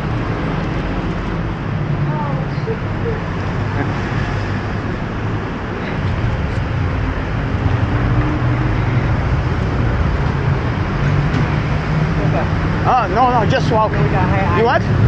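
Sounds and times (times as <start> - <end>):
low engine drone: 0.0 - 15.0
street traffic rumble: 0.0 - 15.0.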